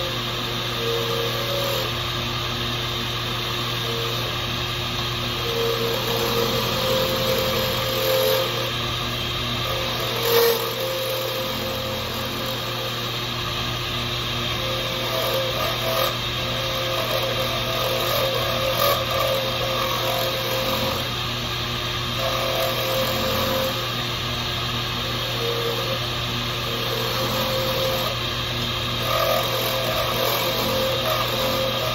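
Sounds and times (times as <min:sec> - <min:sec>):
small lathe running: 0:00.0 - 0:31.9.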